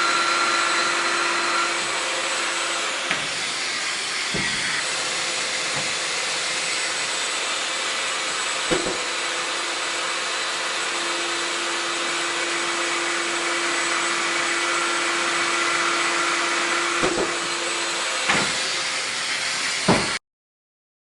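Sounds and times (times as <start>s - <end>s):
power joiner whooshing hum: 0.0s - 20.2s.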